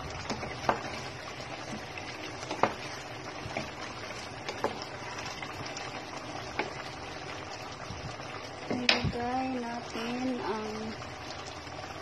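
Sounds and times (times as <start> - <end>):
sauce simmering with pops: 0.0 - 12.0.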